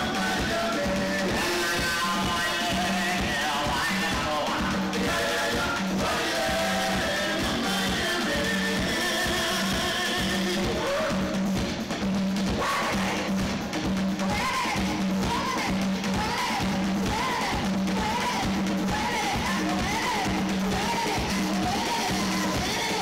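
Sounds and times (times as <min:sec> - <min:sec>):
drum kit beat: 0:00.0 - 0:23.0
guitar band playing live: 0:00.0 - 0:23.0.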